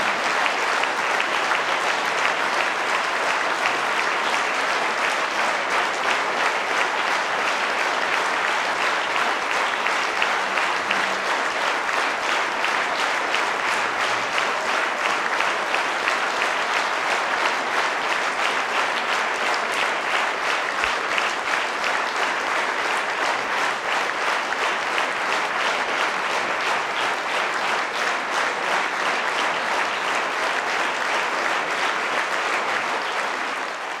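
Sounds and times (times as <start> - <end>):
audience applauding: 0.0 - 34.0.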